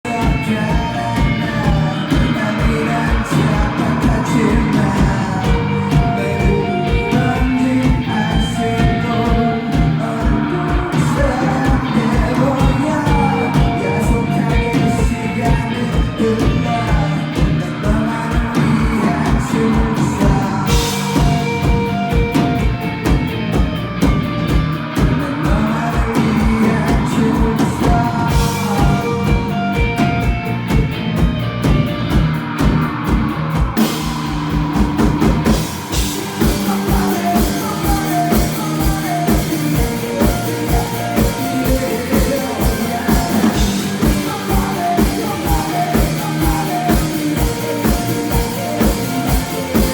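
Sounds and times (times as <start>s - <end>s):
person singing: 0.0s - 49.9s
rock band playing live: 0.0s - 49.9s.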